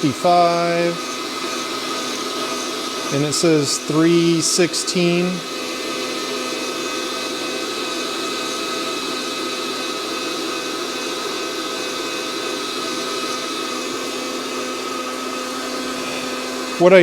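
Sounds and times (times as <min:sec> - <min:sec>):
coffee roaster blower whoosh: 0:00.0 - 0:17.0.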